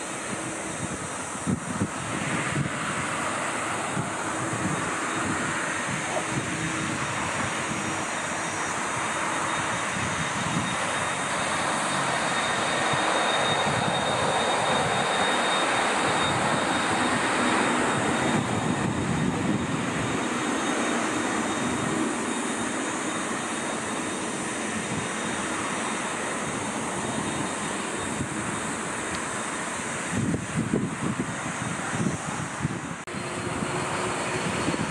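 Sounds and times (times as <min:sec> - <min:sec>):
jet engines idling with whine: 0:00.0 - 0:34.9.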